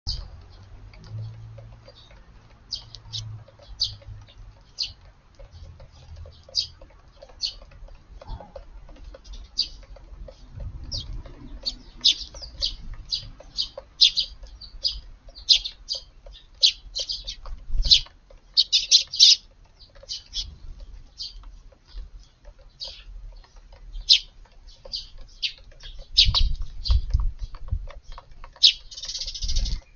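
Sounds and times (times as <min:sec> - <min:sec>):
sparrows chirping: 0:00.1 - 0:29.9.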